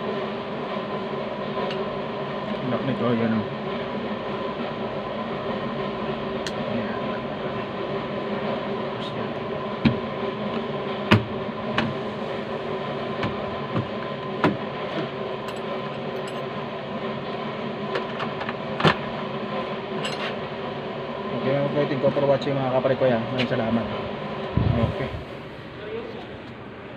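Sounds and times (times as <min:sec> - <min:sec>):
steady mechanical hum: 0:00.0 - 0:26.9.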